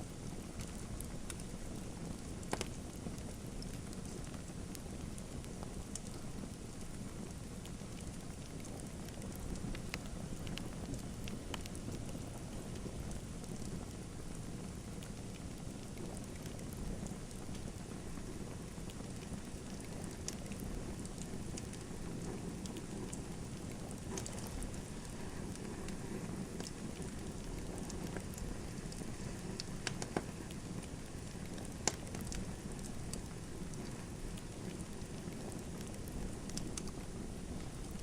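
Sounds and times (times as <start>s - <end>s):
fire crackles and pops: 0.0s - 38.0s
wood fire burning: 0.0s - 38.0s.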